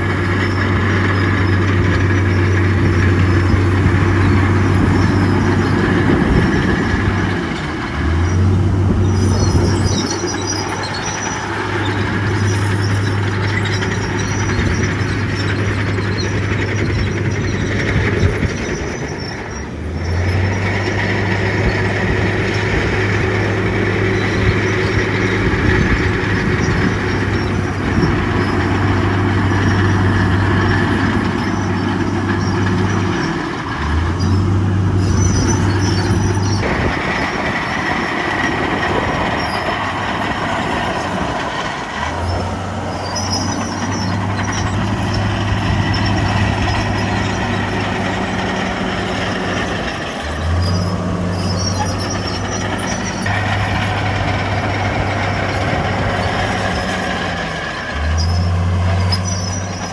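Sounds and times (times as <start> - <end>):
constant mechanical noise: 0.0 - 59.9
heavy diesel engines running: 0.0 - 59.9.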